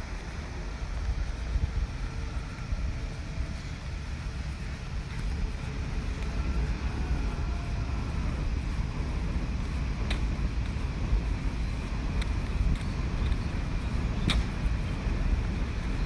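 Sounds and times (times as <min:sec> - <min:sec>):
wind and rotor buffeting microphone: 0:00.0 - 0:16.0.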